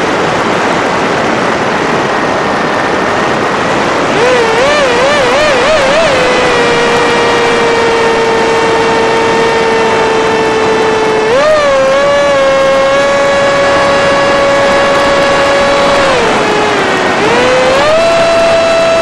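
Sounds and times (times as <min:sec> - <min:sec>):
electric motor and propeller whining: 0:00.0 - 0:19.0.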